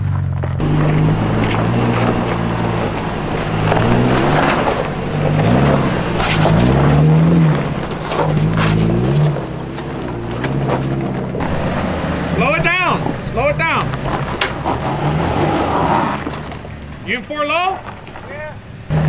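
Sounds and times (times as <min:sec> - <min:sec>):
tyres crunching on rock: 0:00.0 - 0:18.6
pickup engine revving: 0:00.0 - 0:19.0.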